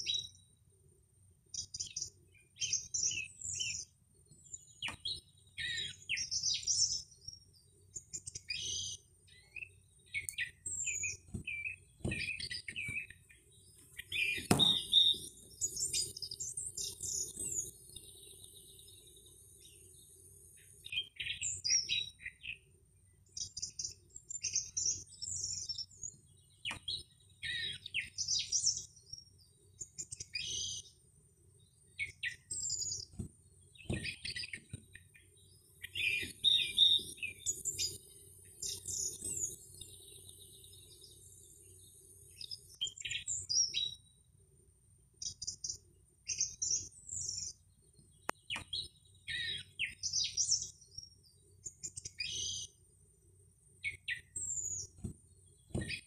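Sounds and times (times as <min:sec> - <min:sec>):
birds chirping and singing: 0:00.0 - 0:00.6, 0:01.5 - 0:31.0, 0:31.6 - 0:44.2, 0:45.2 - 0:52.8, 0:53.8 - 0:56.0.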